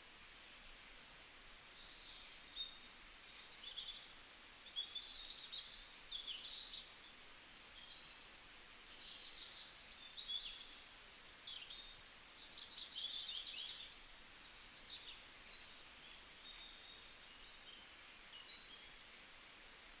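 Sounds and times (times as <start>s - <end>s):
light background hiss: 0.0s - 20.0s.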